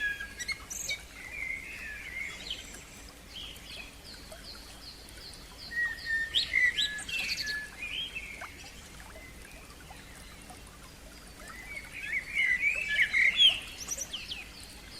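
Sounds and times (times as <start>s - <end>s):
faint steady hiss: 0.0s - 14.9s
songbird singing: 0.0s - 14.9s.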